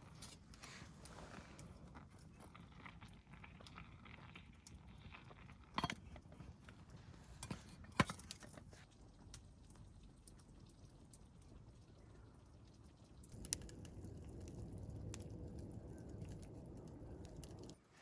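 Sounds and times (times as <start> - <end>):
faint background noise: 0.0 - 18.0.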